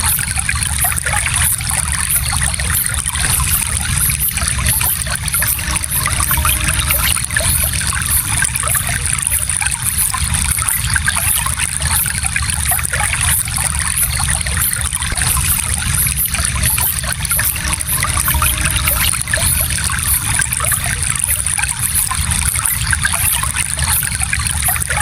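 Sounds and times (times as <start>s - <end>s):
low water rumble: 0.0s - 25.0s
stream water trickling over stones: 0.0s - 25.0s.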